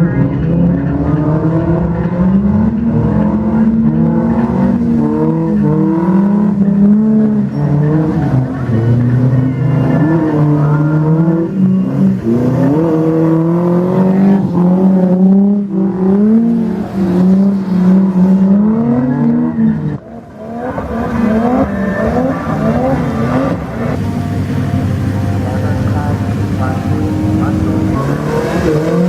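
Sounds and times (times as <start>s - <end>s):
car engine revving hard: 0.0s - 29.0s.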